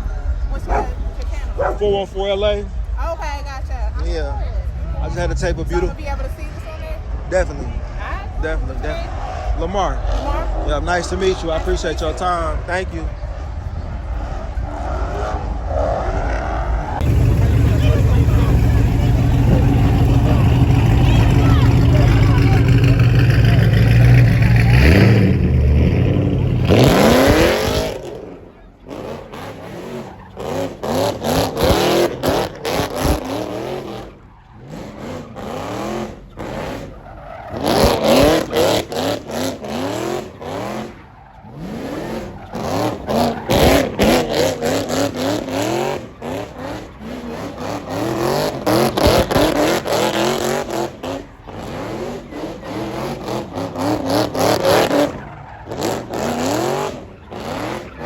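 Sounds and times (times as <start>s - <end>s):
car engine revving hard: 4.9s - 58.0s.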